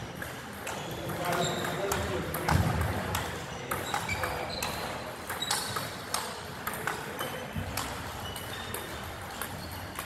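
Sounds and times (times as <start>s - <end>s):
table tennis balls clicking: 0.1s - 10.0s.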